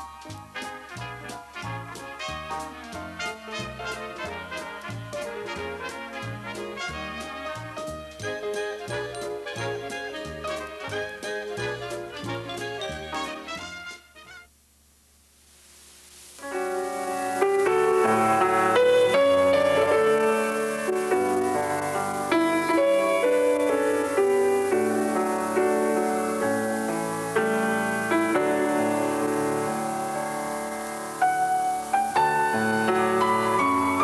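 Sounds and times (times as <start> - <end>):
keyboard playing chords and melody: 0.0 - 13.7, 16.4 - 34.0.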